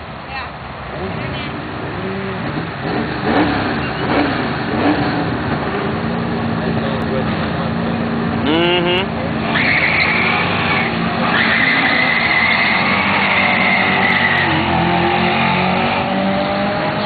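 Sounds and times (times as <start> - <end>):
car engine accelerating hard: 0.9 - 17.0
tires squealing: 1.0 - 17.0.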